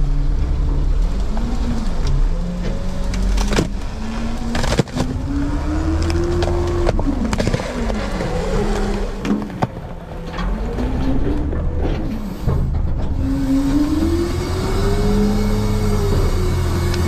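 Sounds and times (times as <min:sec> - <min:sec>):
garbage truck engine revving: 0:00.0 - 0:17.0.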